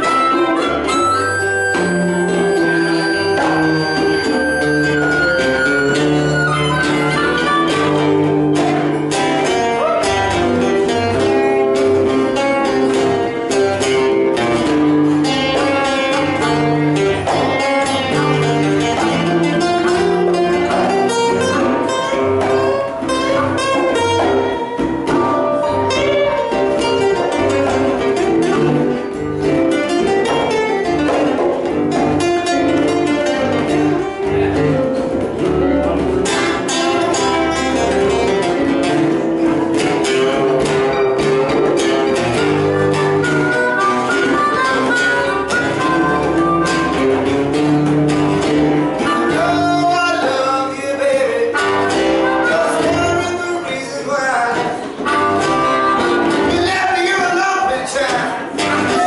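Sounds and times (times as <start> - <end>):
blues harmonica bending notes: 0.0 - 57.8, 58.4 - 59.0
acoustic guitars playing: 0.0 - 59.0.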